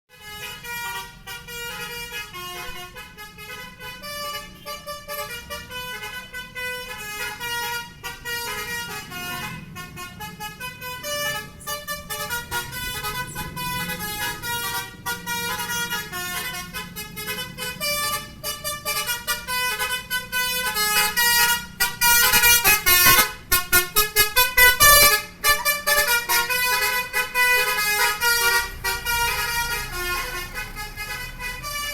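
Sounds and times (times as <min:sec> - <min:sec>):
multi-tone bus air horn melody: 0:00.1 - 0:31.9.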